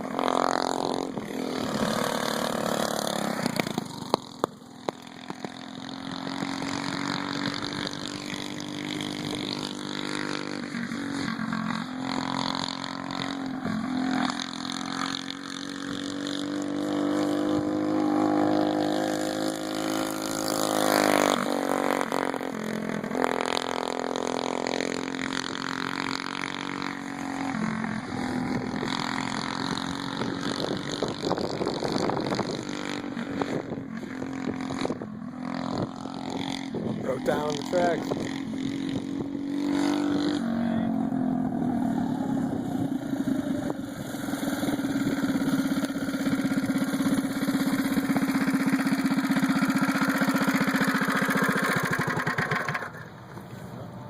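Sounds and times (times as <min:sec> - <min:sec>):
mini bike engines revving: 0:00.0 - 0:54.0.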